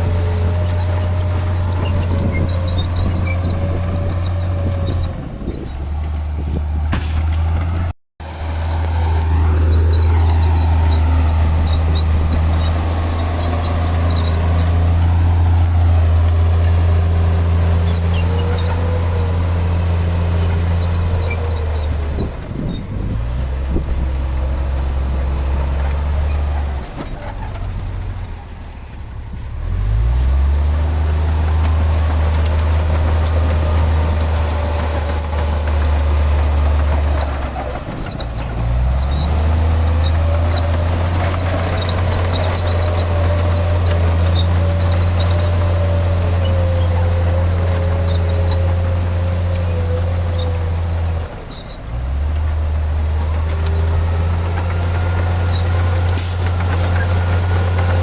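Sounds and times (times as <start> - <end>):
heavy diesel machinery engines: 0.0 - 58.0.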